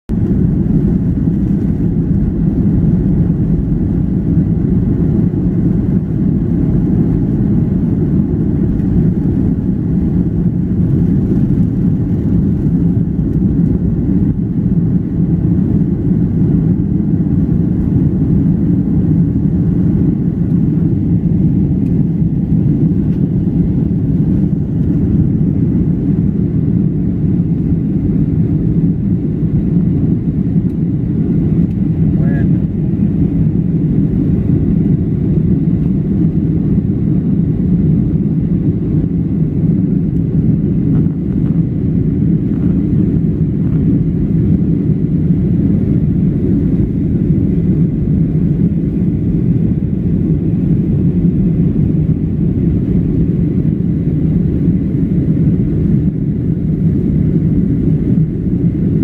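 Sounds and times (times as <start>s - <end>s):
airplane cabin engine drone: 0.1s - 59.0s.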